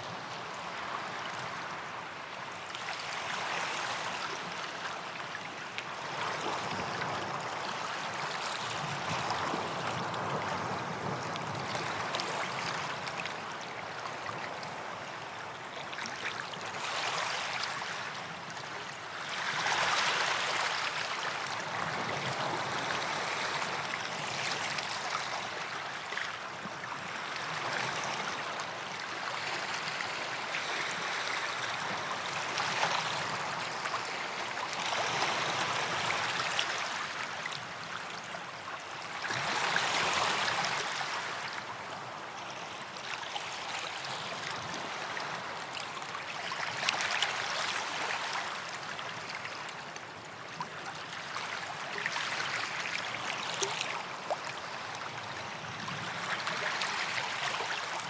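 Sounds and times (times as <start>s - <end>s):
small waves lapping on beach: 0.0s - 58.0s.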